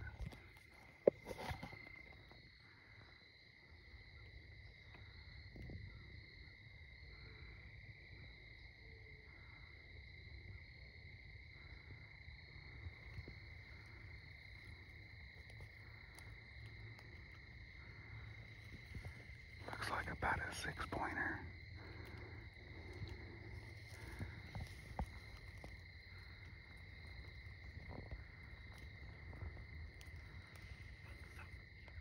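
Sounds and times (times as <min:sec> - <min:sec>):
insect chorus trilling: 0:00.0 - 0:32.0.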